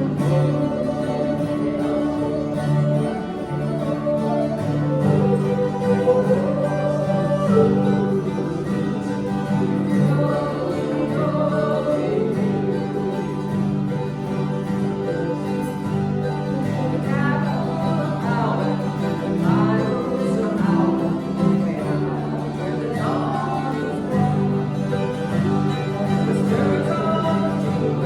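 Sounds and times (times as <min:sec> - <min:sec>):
acoustic guitar: 0:00.0 - 0:28.0
mandolin: 0:00.0 - 0:28.0
person singing: 0:00.0 - 0:28.0.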